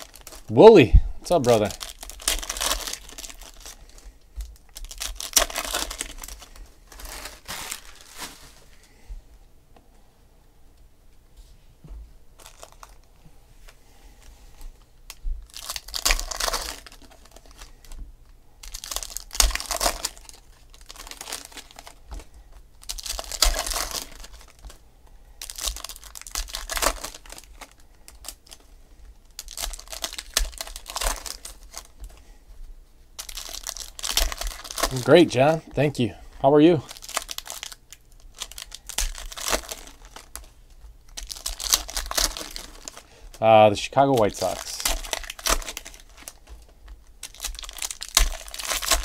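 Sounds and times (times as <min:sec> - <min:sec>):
foil wrappers tearing and crinkling: 0:00.0 - 0:00.7, 0:01.3 - 0:08.9, 0:12.4 - 0:13.1, 0:15.1 - 0:18.0, 0:18.6 - 0:32.2, 0:33.2 - 0:49.0.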